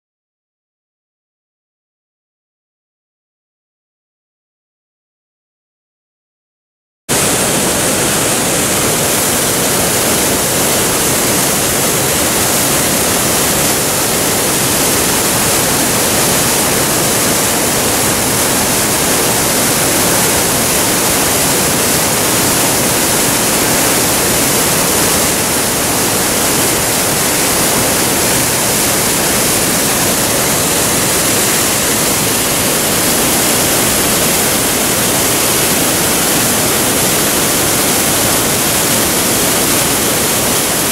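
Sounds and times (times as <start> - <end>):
waterfall rushing: 7.1 - 40.9.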